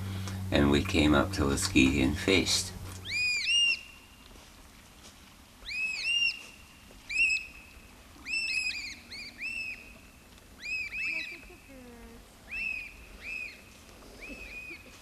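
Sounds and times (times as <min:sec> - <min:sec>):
birds calling: 0:00.0 - 0:04.6, 0:05.6 - 0:15.0.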